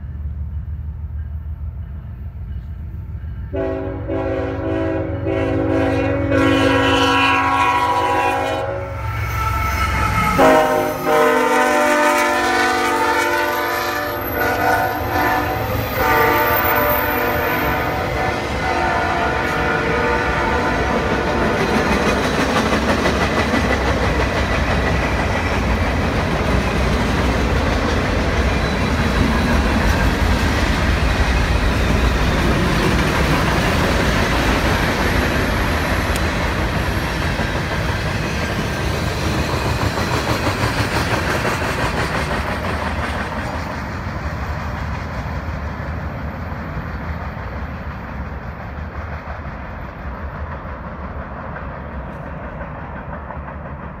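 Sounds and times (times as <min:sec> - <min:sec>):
freight train cars rolling: 0:00.0 - 0:54.0.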